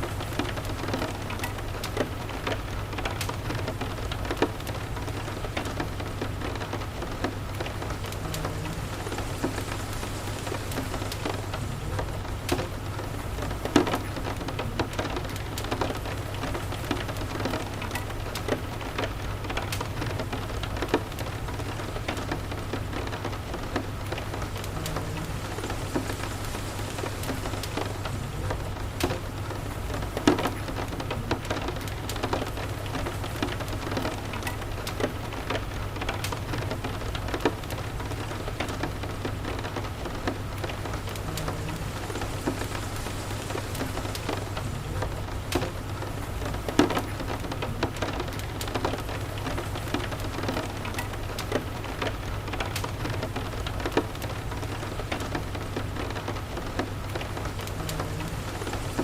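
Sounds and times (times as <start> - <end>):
low steady hum: 0.0 - 59.0
steady rain: 0.0 - 59.0
wood fire crackling: 0.0 - 59.0.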